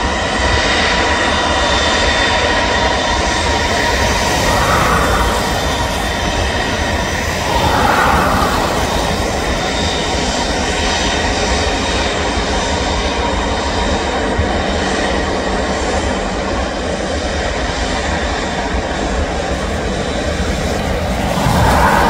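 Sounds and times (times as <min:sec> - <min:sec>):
airliner engines rumbling: 0:00.7 - 0:22.0.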